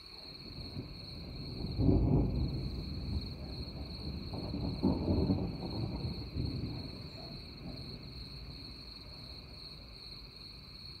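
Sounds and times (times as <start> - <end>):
crickets trilling: 0.0 - 11.0
thunder rumble: 0.0 - 11.0
low background rumble: 0.4 - 11.0.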